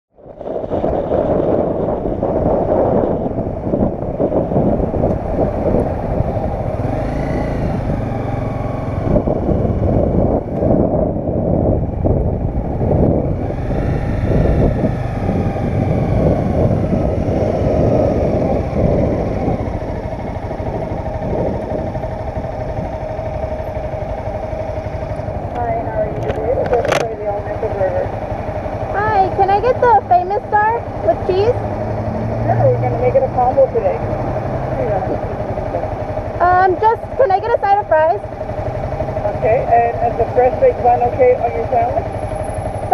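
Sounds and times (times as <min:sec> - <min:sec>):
motorcycle engine running: 0:00.2 - 0:42.9.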